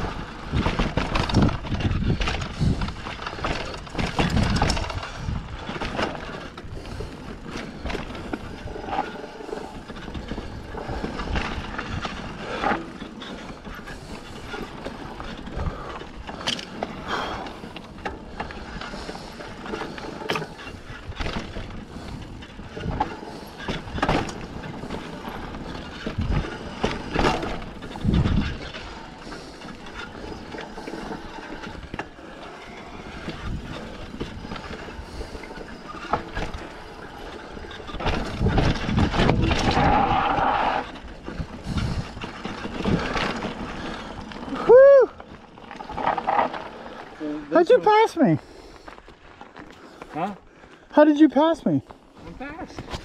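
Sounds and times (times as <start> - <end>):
bike knocking and rattling: 0.0 - 53.0
bike tyres on dirt: 0.0 - 53.0.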